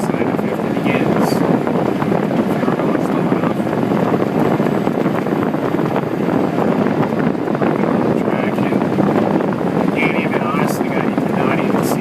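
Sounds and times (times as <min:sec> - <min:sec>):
blizzard wind on microphone: 0:00.0 - 0:12.0.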